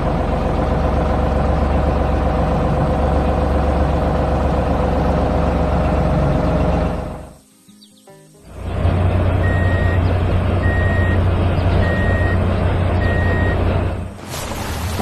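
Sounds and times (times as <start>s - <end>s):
heavy vehicle engine idling: 0.0s - 7.4s, 8.4s - 15.0s.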